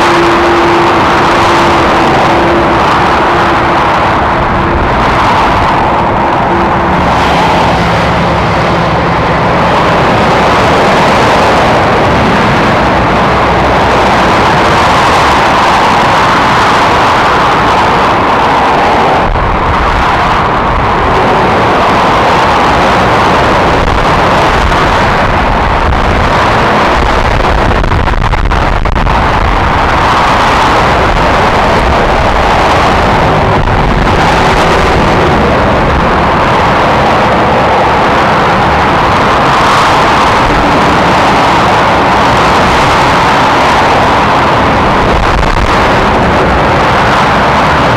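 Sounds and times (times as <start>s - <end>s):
motorway traffic passing: 0.0s - 47.9s.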